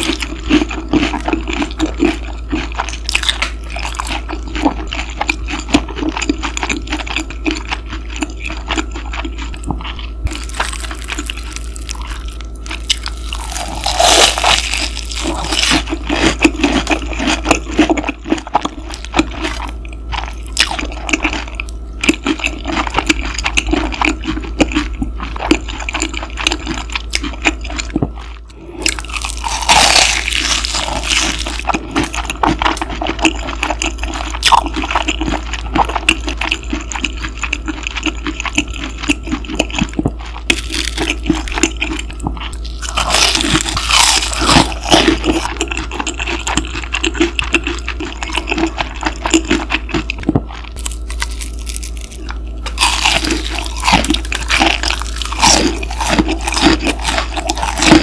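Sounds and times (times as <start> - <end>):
chewing crispy fried food: 0.0 - 58.0
low machine hum: 0.0 - 58.0.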